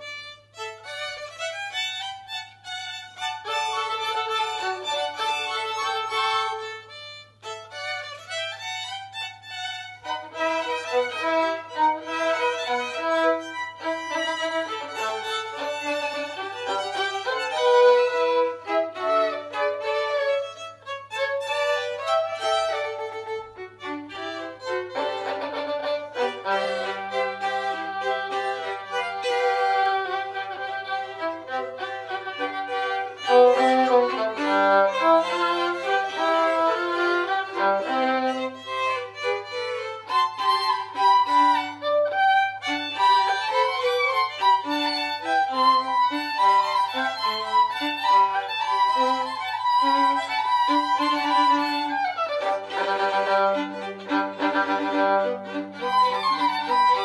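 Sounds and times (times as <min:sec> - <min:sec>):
classical chamber music with violins: 0:00.0 - 0:57.0.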